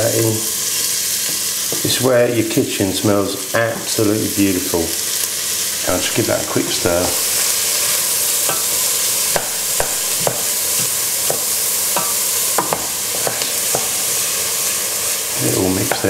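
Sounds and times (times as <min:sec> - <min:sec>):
onions sizzling in pot: 0:00.0 - 0:16.0.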